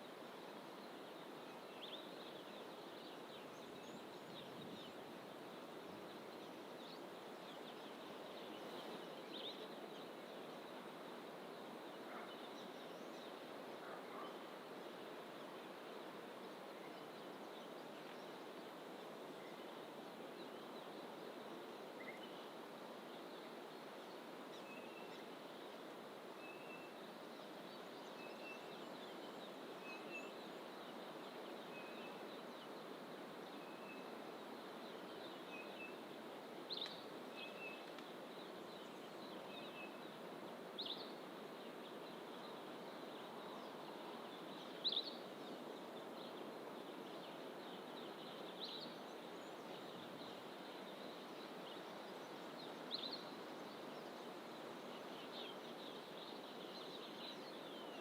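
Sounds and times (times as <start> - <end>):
faint background hiss: 0.0 - 58.0.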